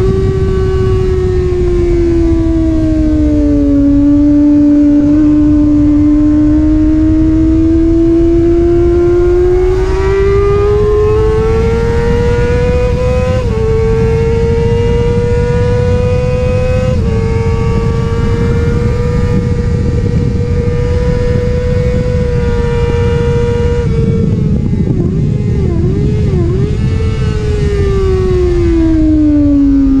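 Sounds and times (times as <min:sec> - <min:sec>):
motorcycle engine revving: 0:00.0 - 0:30.0
wind rush on microphone: 0:00.0 - 0:30.0.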